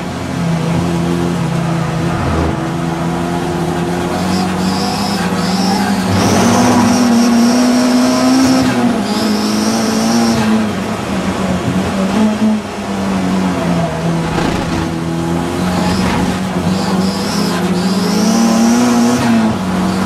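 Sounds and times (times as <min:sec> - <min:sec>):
race car engine revving: 0:00.6 - 0:20.0.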